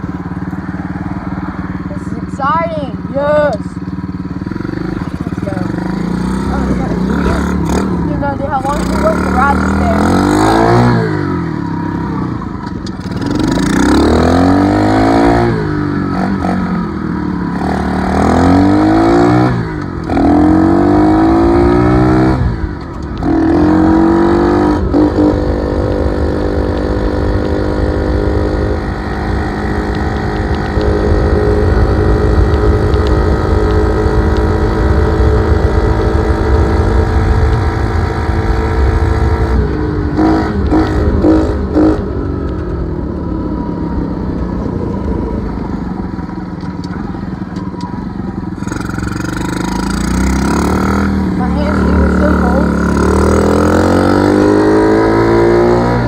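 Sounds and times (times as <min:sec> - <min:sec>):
dirt bike engine revving: 0:00.0 - 0:43.0, 0:44.6 - 0:56.0.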